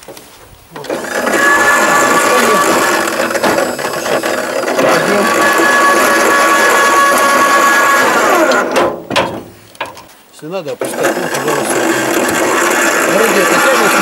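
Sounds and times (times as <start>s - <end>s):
electric lift motor whining: 0.7s - 9.0s, 10.8s - 14.0s.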